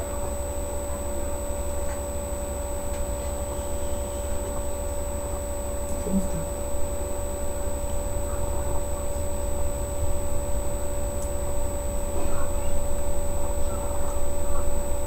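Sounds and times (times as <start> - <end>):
steady low hum with hiss: 0.0 - 15.0
thin high whine: 0.0 - 15.0.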